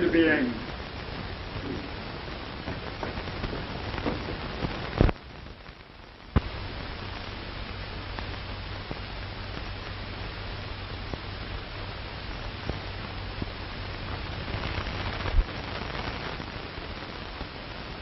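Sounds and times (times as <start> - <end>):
film soundtrack hiss and hum: 0.0 - 18.0.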